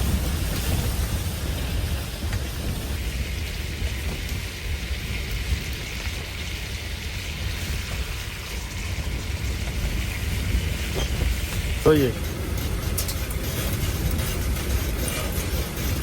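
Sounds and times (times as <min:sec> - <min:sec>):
blizzard wind on microphone: 0:00.0 - 0:16.0.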